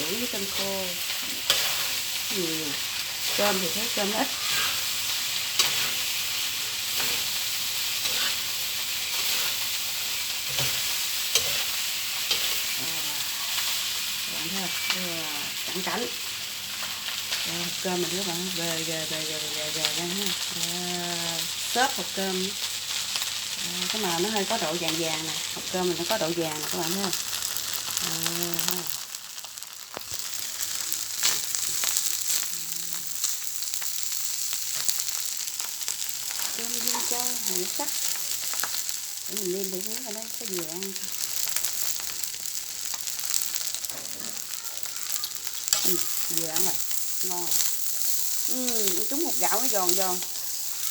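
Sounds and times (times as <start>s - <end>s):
rice sizzling in a pan: 0.0s - 50.9s.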